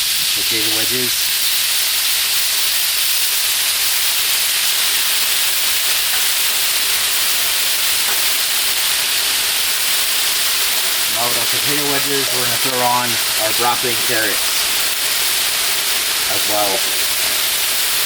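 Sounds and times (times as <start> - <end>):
potato wedges sizzling in oil: 0.0 - 18.0.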